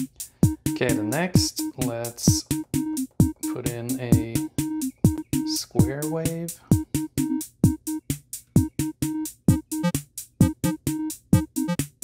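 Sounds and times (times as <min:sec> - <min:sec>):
plucky synth notes: 0:00.6 - 0:07.4, 0:08.7 - 0:11.9.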